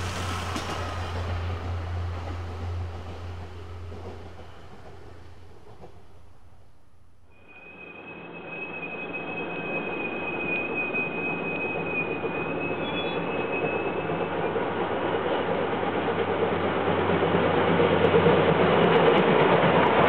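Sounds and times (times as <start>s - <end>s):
train running noise: 0.0s - 20.0s
train wheels squealing on rails: 0.0s - 20.0s.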